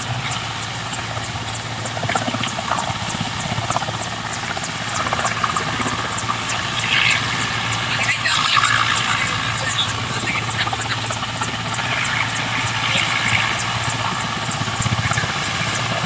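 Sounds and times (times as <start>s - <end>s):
helicopter drone: 0.0s - 16.0s.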